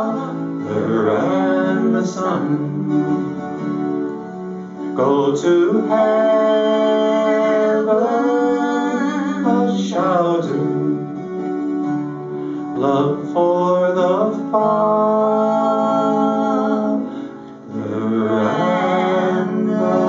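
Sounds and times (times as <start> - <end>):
man and woman singing in harmony: 0.0 - 3.5, 5.0 - 11.2, 12.8 - 20.0
strummed acoustic guitar: 0.0 - 20.0.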